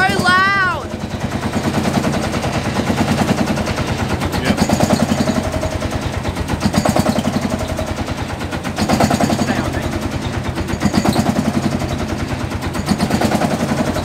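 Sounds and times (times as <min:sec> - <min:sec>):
old tractor engine running: 0:00.0 - 0:14.0.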